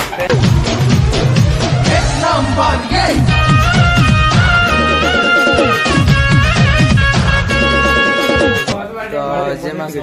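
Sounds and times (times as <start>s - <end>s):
intro music with steady beat: 0.0s - 8.8s.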